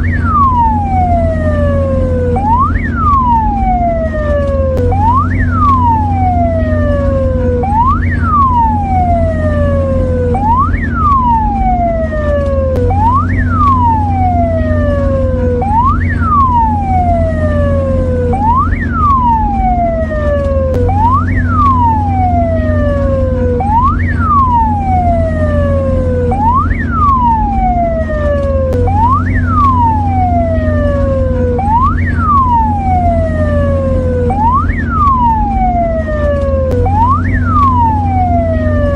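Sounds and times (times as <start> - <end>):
ambulance siren: 0.0 - 38.9
steady low hum: 0.0 - 38.9.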